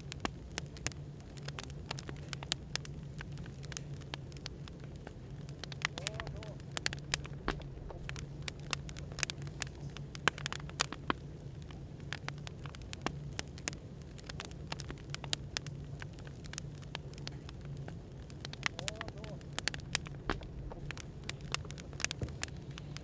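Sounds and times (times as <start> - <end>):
firewood crackling and popping: 0.0 - 23.0
low white noise hum: 0.0 - 23.0.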